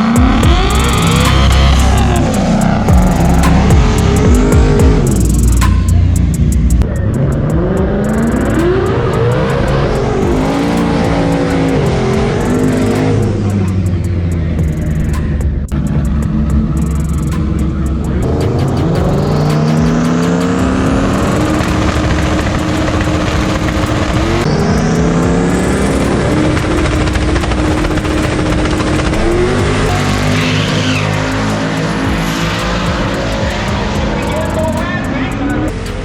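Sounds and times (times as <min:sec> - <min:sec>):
drag race cars accelerating: 0:00.0 - 0:36.0.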